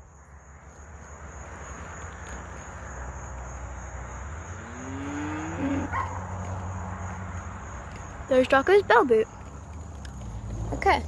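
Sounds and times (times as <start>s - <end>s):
high insect drone: 0.0s - 9.5s.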